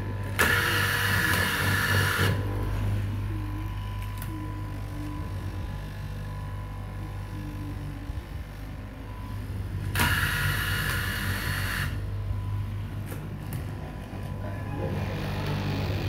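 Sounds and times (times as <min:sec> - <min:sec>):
fabric cutting machine humming: 0:00.0 - 0:16.0.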